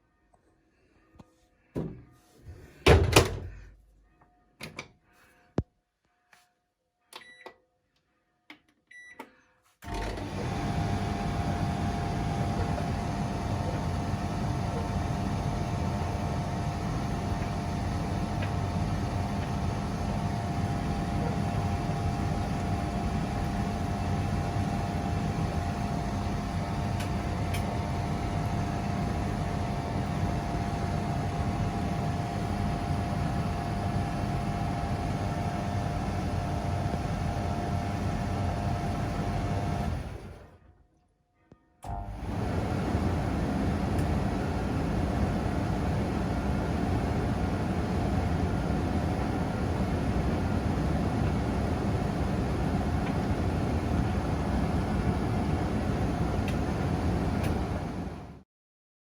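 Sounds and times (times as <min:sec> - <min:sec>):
laundry appliance humming: 0:09.8 - 0:40.7, 0:41.8 - 0:58.4.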